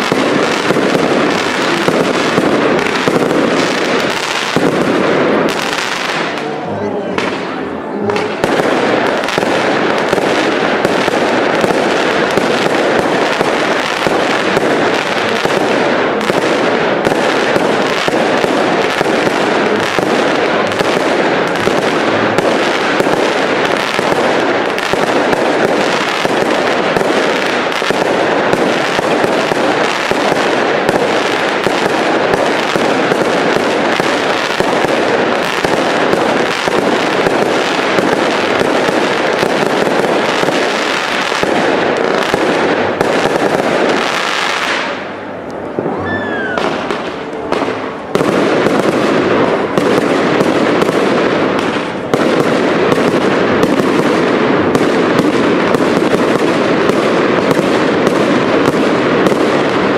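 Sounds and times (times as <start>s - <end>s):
fireworks barrage popping and crackling: 0.0s - 59.9s.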